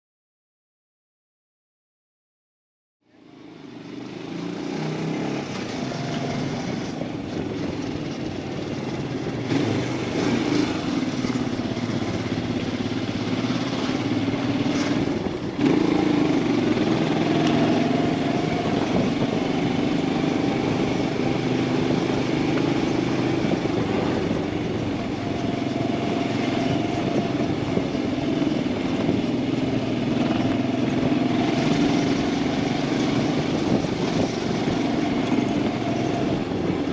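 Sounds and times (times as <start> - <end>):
road and wind noise: 3.0 - 36.9
motorcycle engine running: 3.1 - 36.9.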